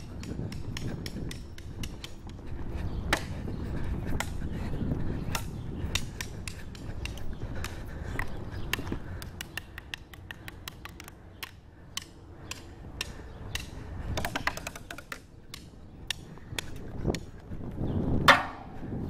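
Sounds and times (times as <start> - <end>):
wooden sticks tapping tree trunk: 0.0 - 2.5, 4.1 - 4.4, 5.3 - 17.5, 18.3 - 18.8.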